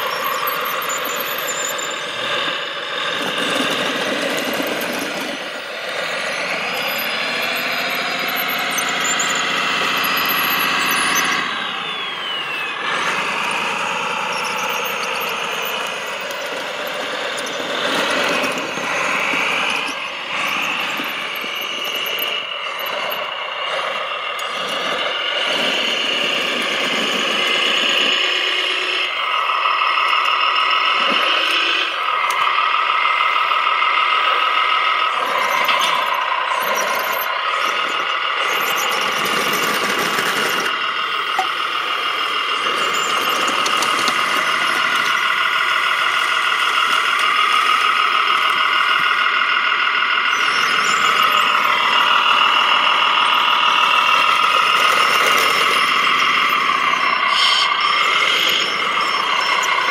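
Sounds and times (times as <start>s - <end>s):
toy loader high whine: 0.0s - 59.9s.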